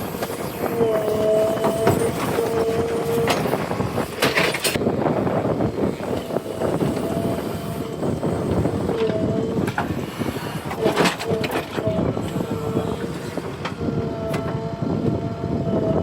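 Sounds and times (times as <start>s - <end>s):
diesel engine under load: 0.0s - 16.0s
machinery rattling and clanking: 0.0s - 16.0s.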